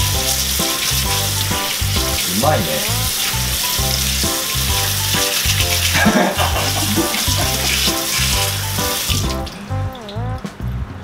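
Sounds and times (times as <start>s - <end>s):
running tap water: 0.0s - 10.2s
background music with bass line: 0.0s - 11.0s.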